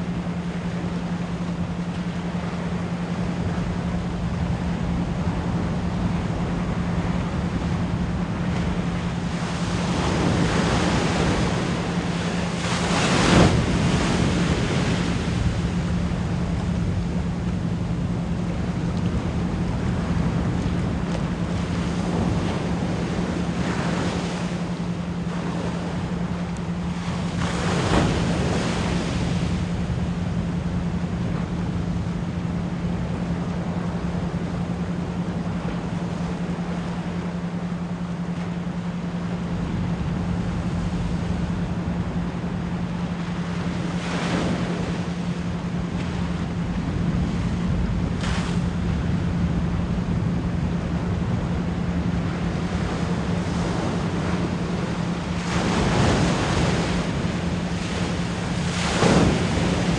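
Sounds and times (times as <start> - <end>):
ocean waves washing in: 0.0 - 59.9
steady pure tone: 0.0 - 59.9.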